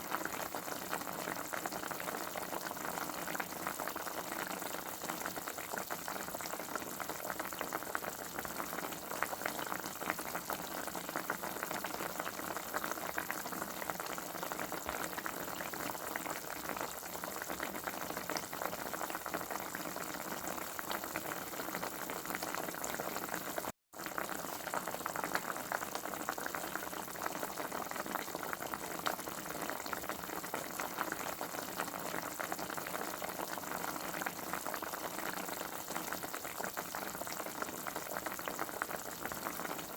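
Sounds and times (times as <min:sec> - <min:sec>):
food boiling and bubbling: 0:00.0 - 0:39.9.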